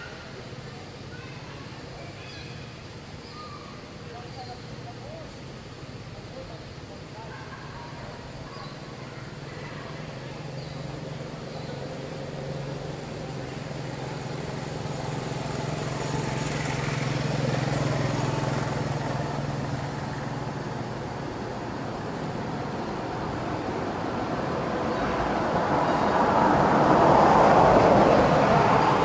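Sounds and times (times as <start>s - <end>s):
vehicle engine hum: 2.6s - 29.0s.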